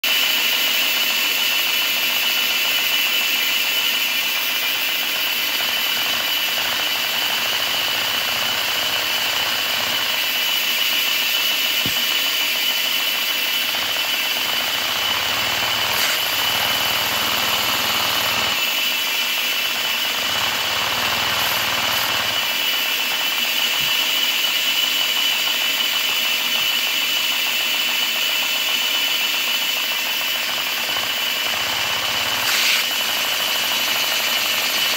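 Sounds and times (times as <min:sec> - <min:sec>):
vacuum cleaner whine: 0:00.0 - 0:34.9.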